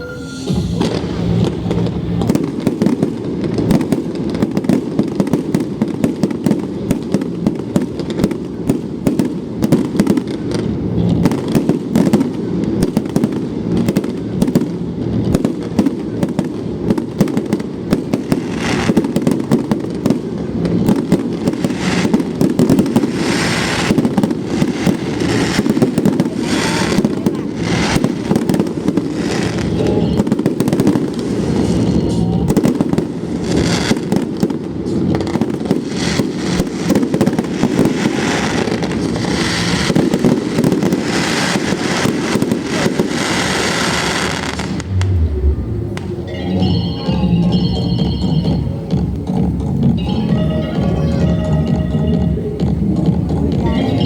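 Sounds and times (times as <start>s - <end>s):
fireworks bangs: 0.0s - 47.6s
fireworks crackling: 0.0s - 47.8s.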